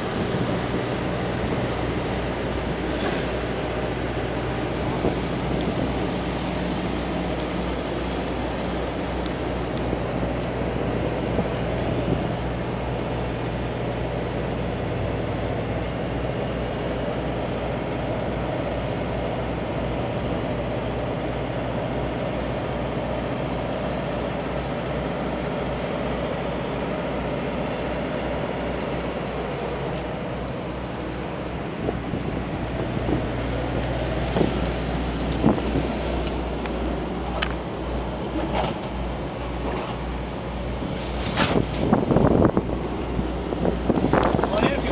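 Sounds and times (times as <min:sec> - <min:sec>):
engine idling drone: 0:00.0 - 0:44.9.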